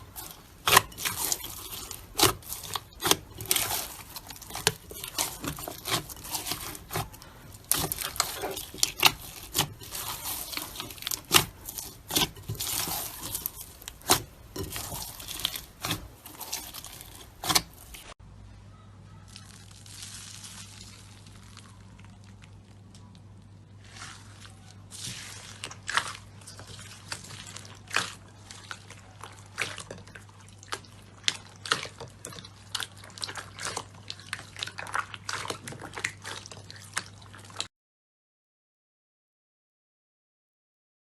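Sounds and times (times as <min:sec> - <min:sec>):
slime popping and crackling: 0:00.0 - 0:18.1, 0:19.3 - 0:37.7.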